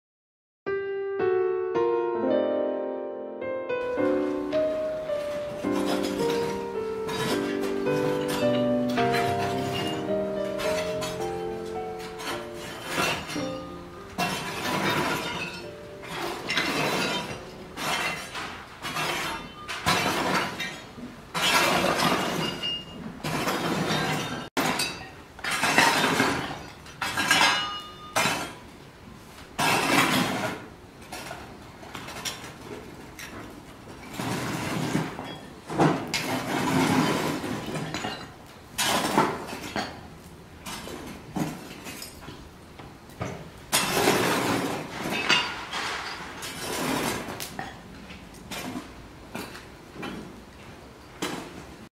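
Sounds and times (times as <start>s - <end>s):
charcoal clinking and rattling: 5.3s - 28.7s, 29.6s - 42.5s, 43.7s - 50.4s.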